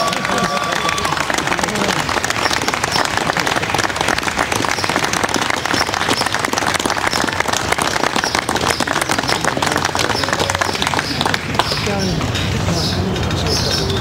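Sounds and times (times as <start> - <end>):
people clapping: 0.0 - 12.3.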